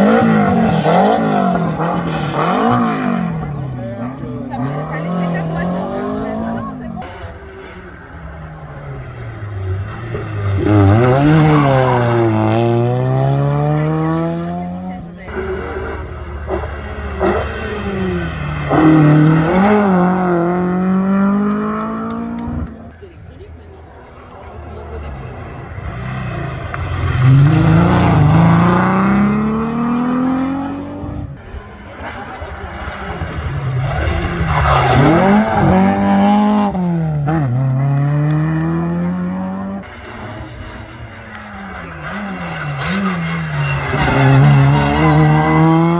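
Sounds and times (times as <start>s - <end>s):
rally car engine passing by: 0.0s - 22.9s, 24.2s - 45.9s.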